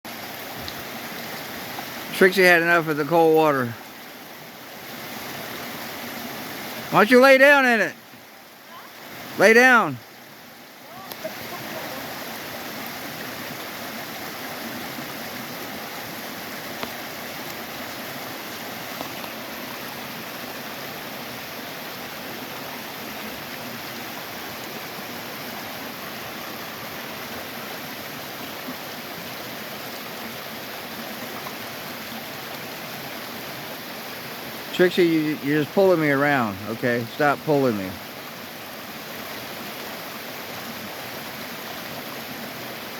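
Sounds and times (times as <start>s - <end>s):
creek water flowing: 0.1s - 42.9s.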